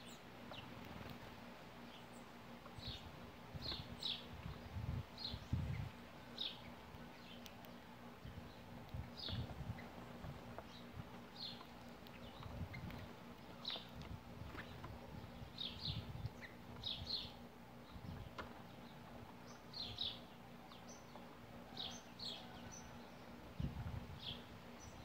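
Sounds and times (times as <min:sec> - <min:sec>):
sparrows chirping: 0:00.0 - 0:25.0.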